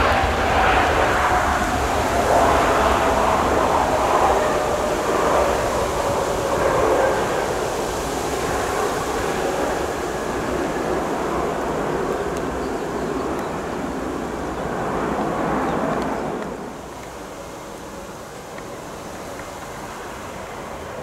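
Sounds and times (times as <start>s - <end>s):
jet engines in reverse thrust: 0.0s - 21.0s.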